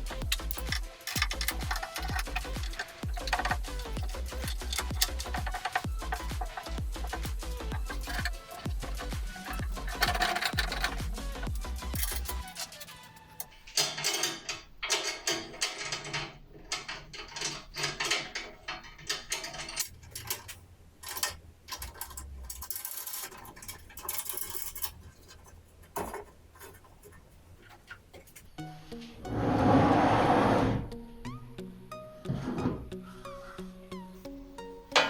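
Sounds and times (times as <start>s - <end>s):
mechanical clicking and rattling: 0.0s - 28.5s.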